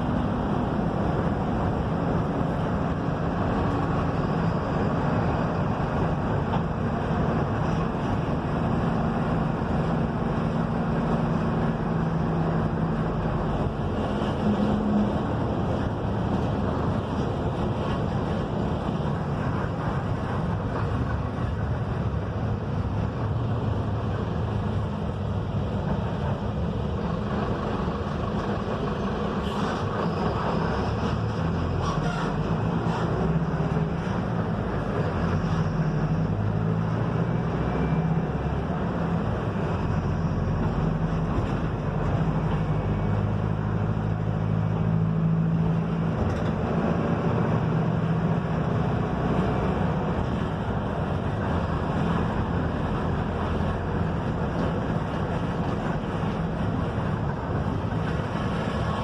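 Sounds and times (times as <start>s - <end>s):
bus diesel engine running: 0.0s - 59.0s
road noise: 0.0s - 59.0s.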